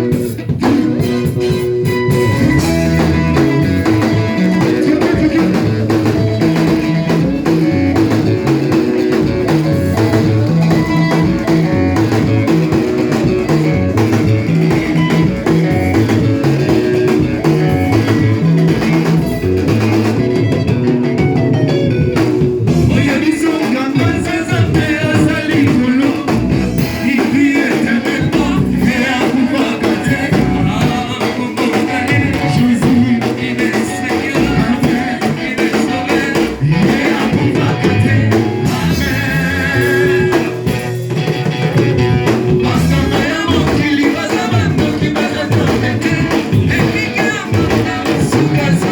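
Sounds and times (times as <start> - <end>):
worship band playing: 0.0 - 48.9.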